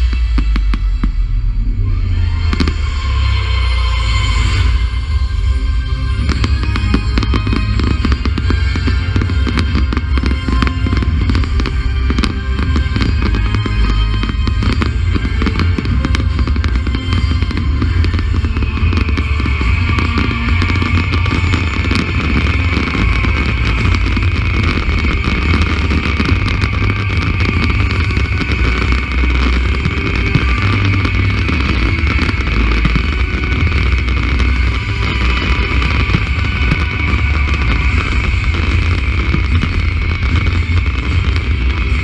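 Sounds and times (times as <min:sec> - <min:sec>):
fireworks banging and crackling: 0:00.0 - 0:42.0
held high note: 0:00.0 - 0:42.0
loud bass-heavy music: 0:00.0 - 0:42.0.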